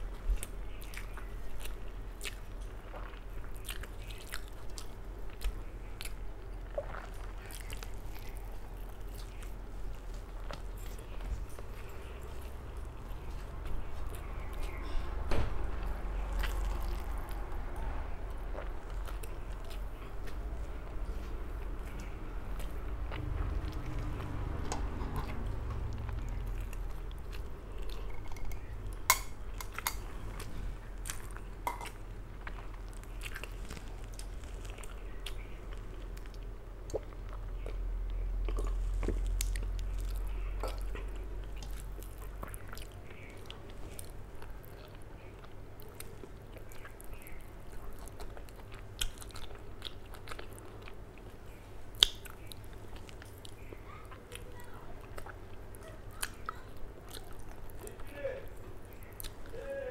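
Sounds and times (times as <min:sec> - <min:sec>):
chewing and wet mouth sounds: 0:00.0 - 0:59.9.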